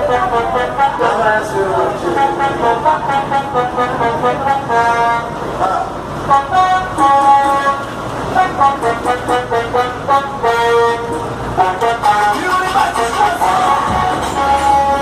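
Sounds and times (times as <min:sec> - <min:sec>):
musical vehicle horn playing tune: 0:00.0 - 0:05.5, 0:06.2 - 0:15.0.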